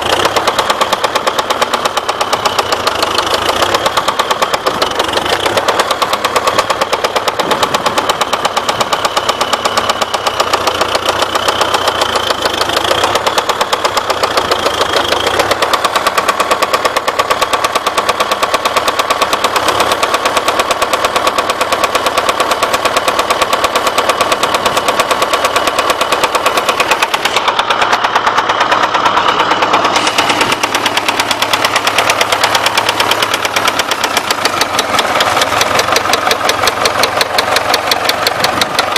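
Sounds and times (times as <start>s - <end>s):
diesel engine knocking: 0.0s - 38.9s.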